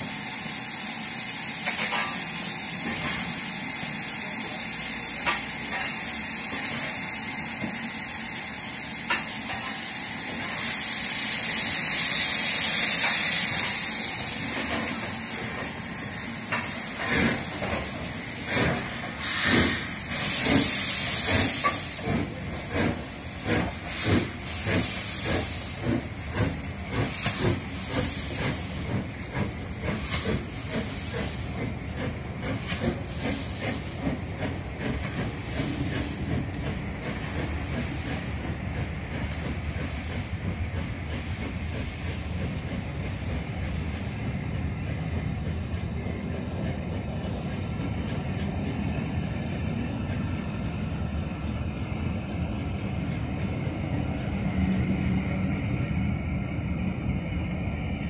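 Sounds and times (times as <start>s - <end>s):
steam hissing: 0.0s - 46.5s
steam locomotive exhaust beats: 0.0s - 58.0s.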